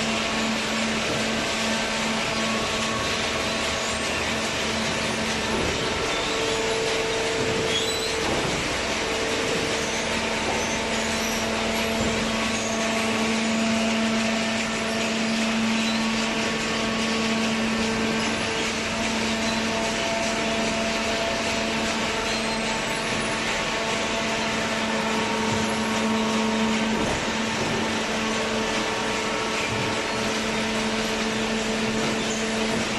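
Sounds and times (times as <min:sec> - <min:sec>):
hydraulic baler humming: 0:00.0 - 0:32.9.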